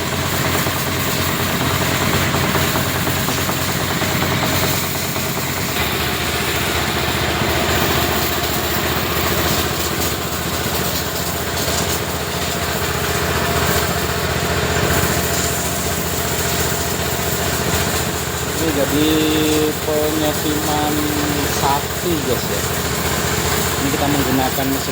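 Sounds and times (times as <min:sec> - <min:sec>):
pressure washer motor humming: 0:00.0 - 0:24.9
water jet hissing: 0:00.0 - 0:24.9.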